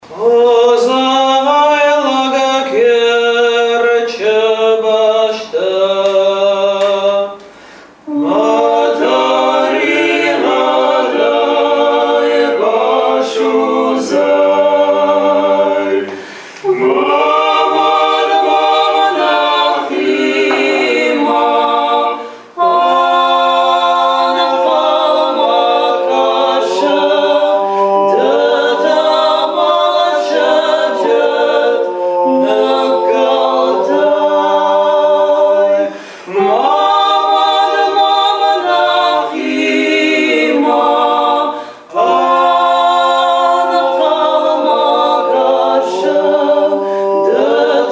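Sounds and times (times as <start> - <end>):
a cappella harmony singing: 0.0 - 47.9.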